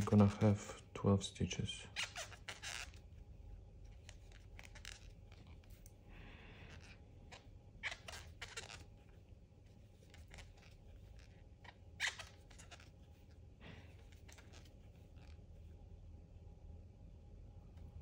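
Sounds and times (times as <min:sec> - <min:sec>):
crochet hook rustling through yarn: 0:00.0 - 0:15.8
low room hum: 0:00.0 - 0:18.0.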